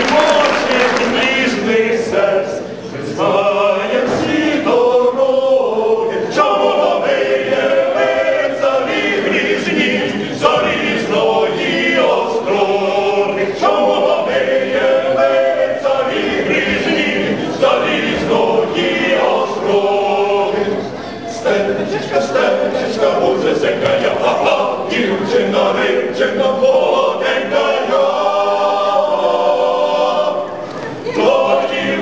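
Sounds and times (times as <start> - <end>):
choir singing a cappella: 0.0 - 32.0.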